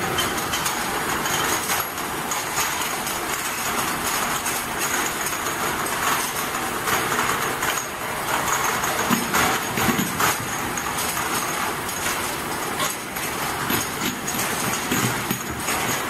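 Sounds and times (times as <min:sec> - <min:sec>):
washing machine rattle and hiss: 0:00.0 - 0:16.0.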